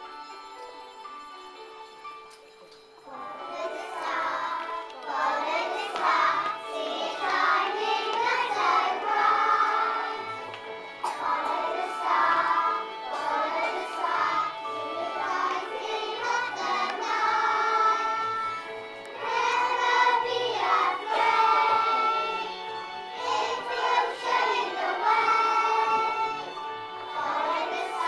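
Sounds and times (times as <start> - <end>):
instrumental accompaniment: 0.0 - 28.0
children singing together: 3.1 - 28.0.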